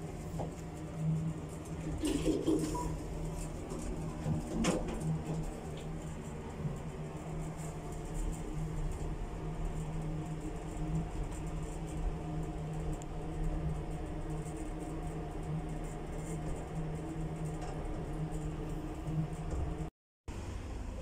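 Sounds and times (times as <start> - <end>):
lift car mechanical hum: 0.0 - 21.0.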